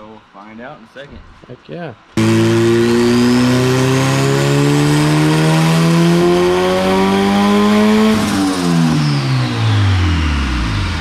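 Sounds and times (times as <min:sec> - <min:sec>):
car engine revving: 0:02.2 - 0:11.0.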